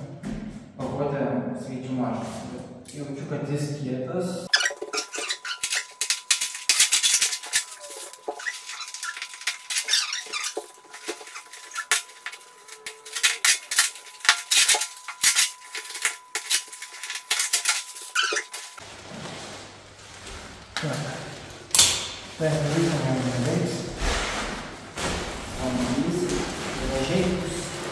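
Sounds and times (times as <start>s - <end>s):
plastic wrapping crinkling and tearing: 4.5s - 27.9s.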